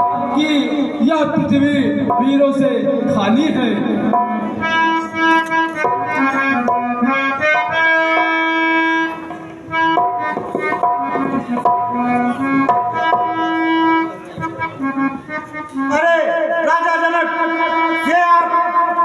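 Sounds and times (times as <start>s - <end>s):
tabla drumming: 0.0s - 15.7s
harmonium melody: 0.0s - 19.0s.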